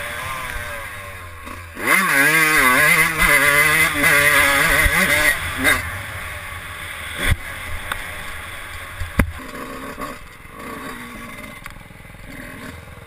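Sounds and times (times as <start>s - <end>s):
dirt bike engine running: 0.0s - 13.0s
wind and rolling noise: 0.0s - 13.0s.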